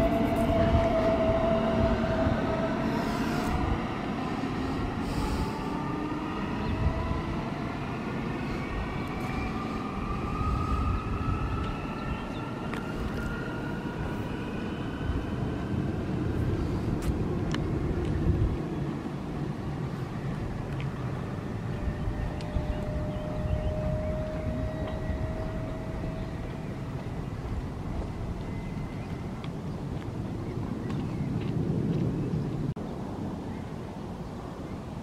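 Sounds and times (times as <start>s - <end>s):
electric train traction whine: 0.0s - 29.6s
train rolling rumble: 0.0s - 33.4s.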